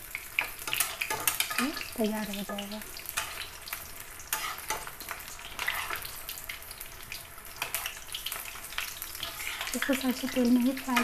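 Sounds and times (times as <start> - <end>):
oil sizzling with crackling pops: 0.0 - 11.0.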